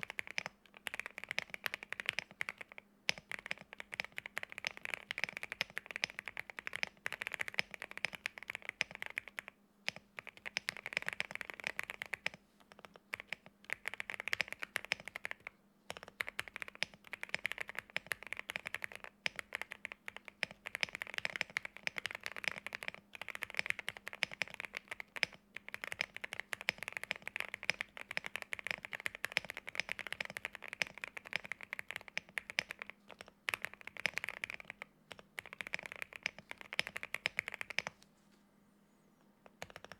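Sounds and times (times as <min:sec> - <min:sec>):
mechanical keyboard typing: 0:00.0 - 0:38.0, 0:39.5 - 0:39.9.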